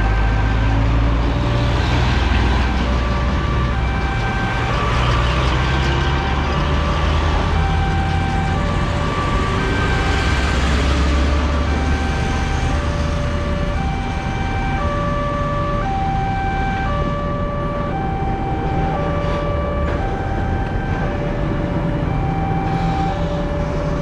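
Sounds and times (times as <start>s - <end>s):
traffic noise: 0.0s - 24.0s
truck engine rumbling: 0.0s - 24.0s
two-tone level crossing alarm: 0.0s - 24.0s.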